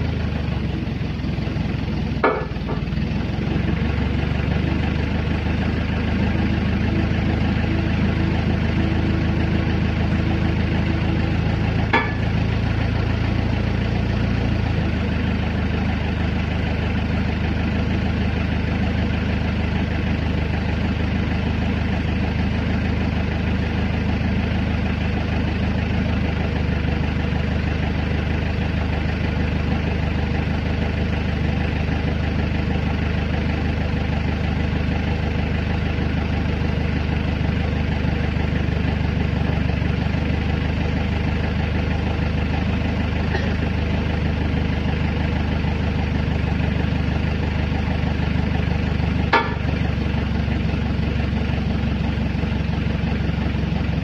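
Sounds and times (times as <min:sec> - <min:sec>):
engine idling low hum: 0:00.0 - 0:54.0.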